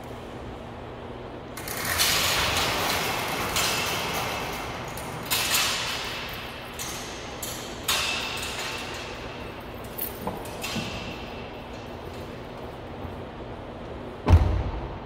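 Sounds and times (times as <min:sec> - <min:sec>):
garage door rolling up tracks: 0:01.3 - 0:14.4.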